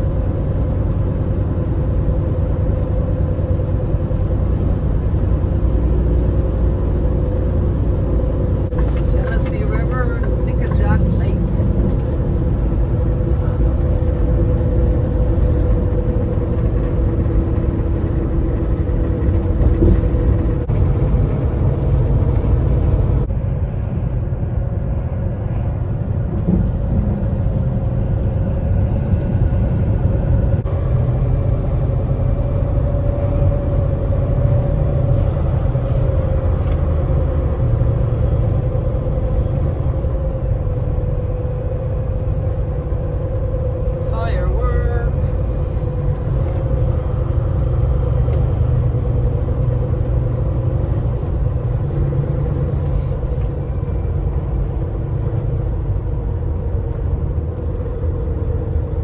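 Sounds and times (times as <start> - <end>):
constant humming tone: 0.0 - 59.0
deep road rumble: 0.0 - 59.0
truck engine drone: 0.0 - 59.0.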